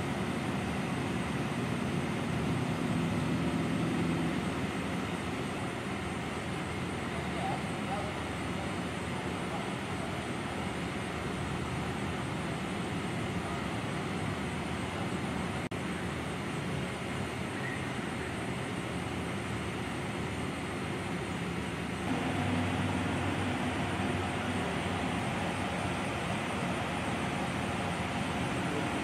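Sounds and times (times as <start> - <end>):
low engine hum: 0.0 - 29.0
road traffic noise: 0.0 - 29.0.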